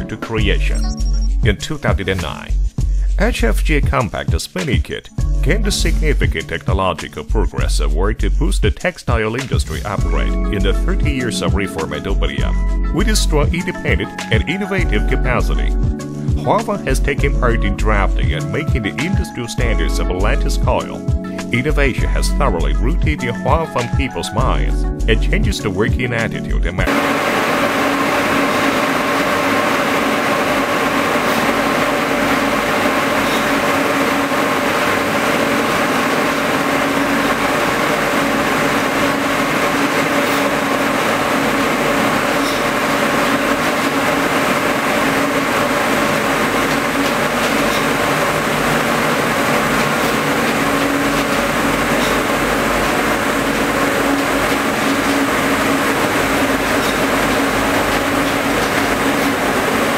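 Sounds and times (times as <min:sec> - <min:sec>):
spinning mill machinery drone: 0:00.0 - 0:03.5, 0:05.2 - 0:06.5, 0:07.6 - 0:25.5, 0:26.4 - 0:59.9.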